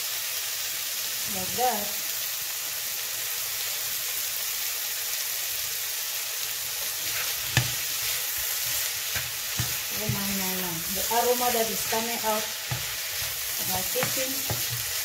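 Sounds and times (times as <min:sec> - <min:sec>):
meat frying in oil: 0:00.0 - 0:15.0.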